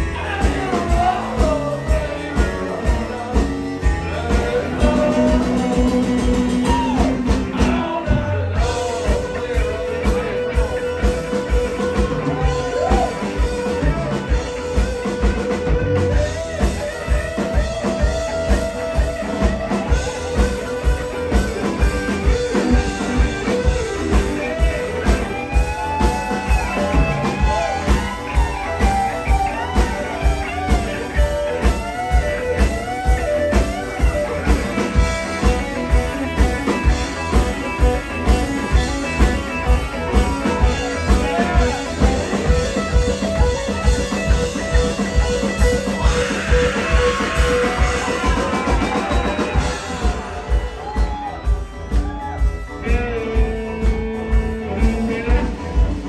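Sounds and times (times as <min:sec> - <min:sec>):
blues-rock band playing: 0:00.0 - 0:56.0
drum-kit beat: 0:00.0 - 0:56.0
electric guitar lead: 0:00.0 - 0:56.0.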